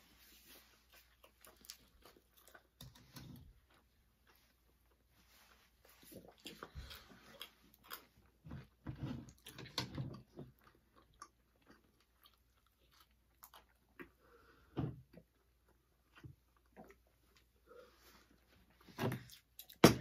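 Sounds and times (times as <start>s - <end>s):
people chewing and biting: 0.5s - 5.1s, 5.8s - 17.6s.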